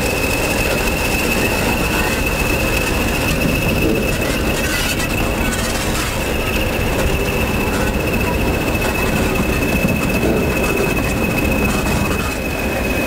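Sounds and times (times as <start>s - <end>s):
diesel locomotives rumbling past: 0.0s - 13.0s
high engine whine: 0.0s - 13.0s.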